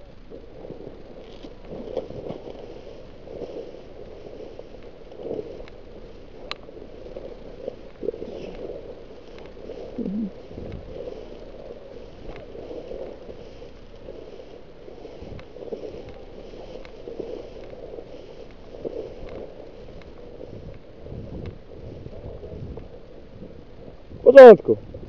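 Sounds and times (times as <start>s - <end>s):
low wavering hum: 0.0s - 24.2s.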